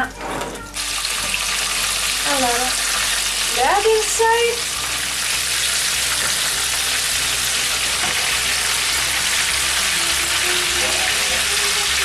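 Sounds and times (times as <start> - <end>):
oil sizzling in a pan: 0.6 - 12.0.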